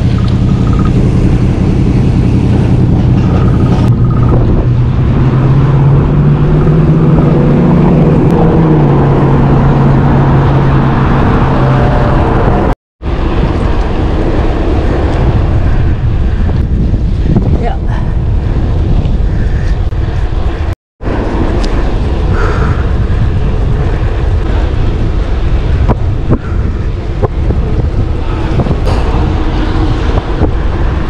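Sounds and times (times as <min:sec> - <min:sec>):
car traffic: 0:00.0 - 0:31.0
low engine hum: 0:00.0 - 0:31.0.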